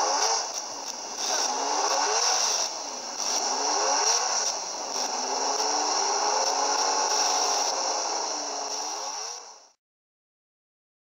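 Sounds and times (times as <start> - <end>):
racing car engine revving: 0.0 - 9.8.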